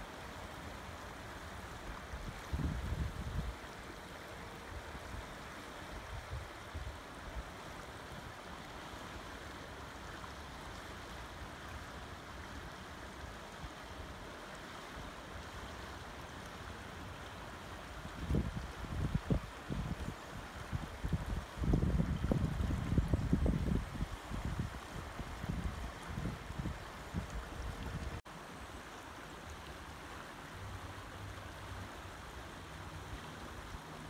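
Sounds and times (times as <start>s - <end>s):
river rippling over stones: 0.0s - 34.0s.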